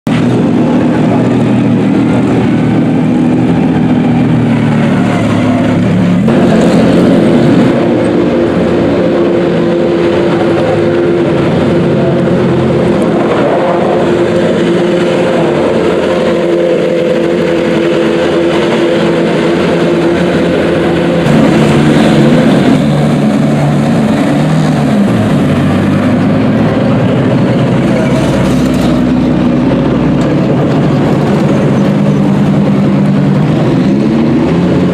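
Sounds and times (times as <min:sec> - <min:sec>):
race car engines running: 0:00.1 - 0:34.9.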